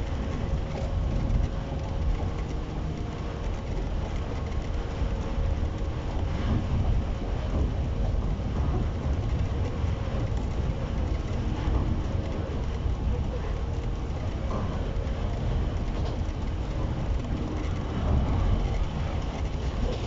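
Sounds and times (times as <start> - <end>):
low rumble: 0.0 - 20.0
train equipment humming: 0.0 - 20.0.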